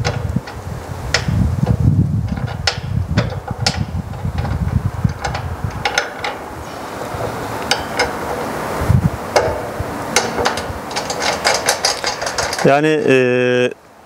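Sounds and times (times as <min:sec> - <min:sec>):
metal clicks and knocks: 0:00.0 - 0:13.1.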